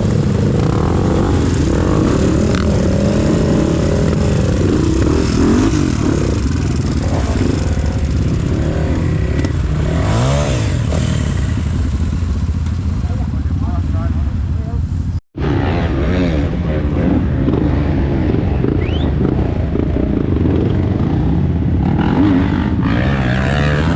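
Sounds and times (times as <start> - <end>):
motorcycle engine revving: 0.0 - 14.1, 15.4 - 23.9.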